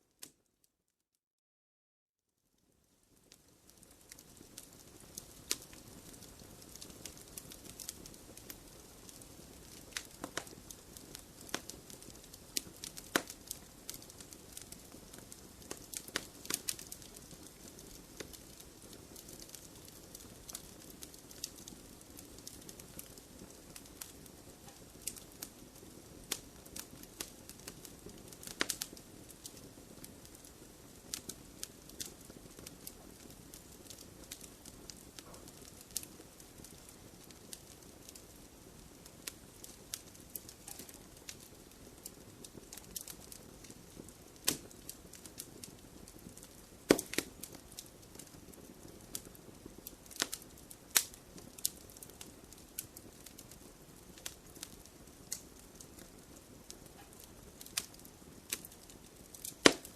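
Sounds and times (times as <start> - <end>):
wood fire crackling: 2.6 - 59.9.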